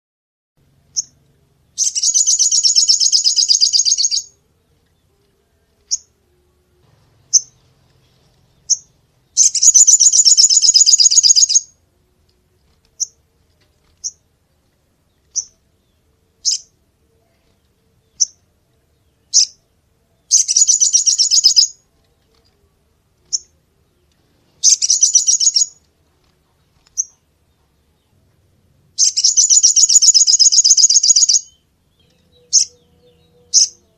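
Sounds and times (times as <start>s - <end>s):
songbird buzzy trills: 0.6s - 33.9s.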